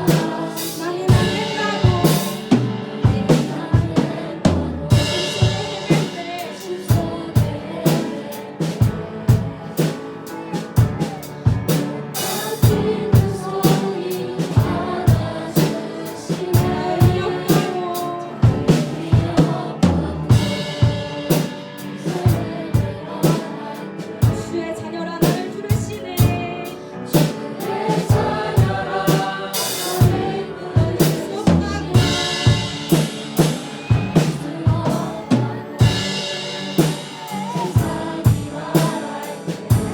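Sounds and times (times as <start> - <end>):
drum kit steady beat: 0.0 - 39.9
people singing: 0.0 - 39.9
piano: 0.0 - 39.9.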